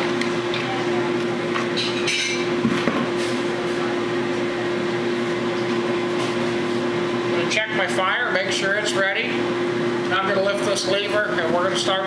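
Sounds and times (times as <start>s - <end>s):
roaster machine hum: 0.0s - 12.0s.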